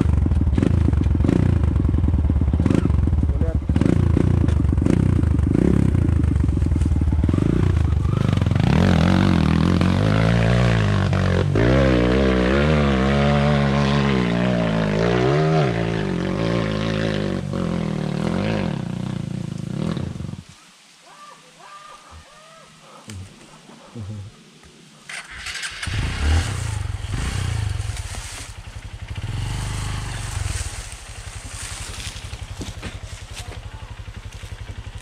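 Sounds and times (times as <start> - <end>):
dirt bike engine revving: 0.0 - 20.4, 25.1 - 35.0.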